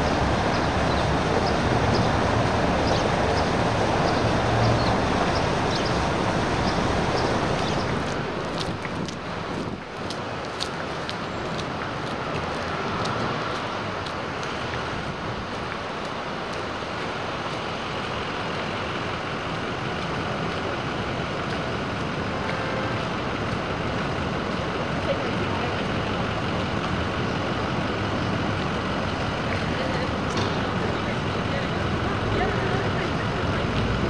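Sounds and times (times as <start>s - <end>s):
street traffic noise: 0.0s - 34.0s.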